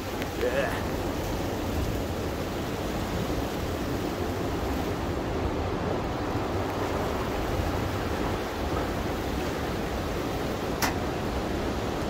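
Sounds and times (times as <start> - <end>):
strong wind rushing through trees: 0.0 - 12.0.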